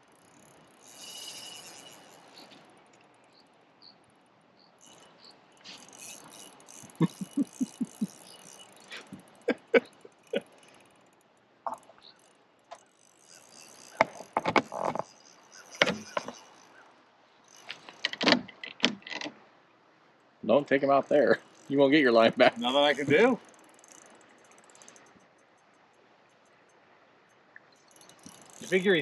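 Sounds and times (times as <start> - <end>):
fishing reel drag clicking: 0.0 - 18.7, 20.9 - 29.0.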